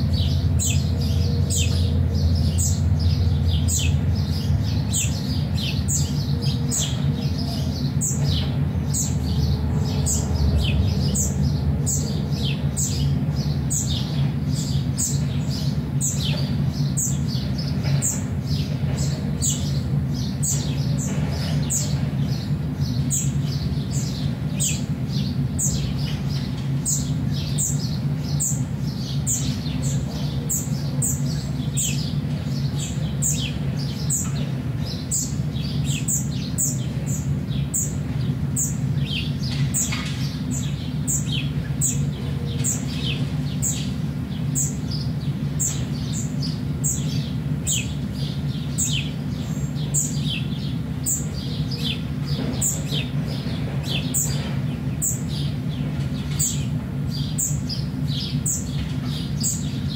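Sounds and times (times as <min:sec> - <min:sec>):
birds chirping: 0:00.0 - 0:59.9
steady low hum: 0:00.0 - 0:59.9.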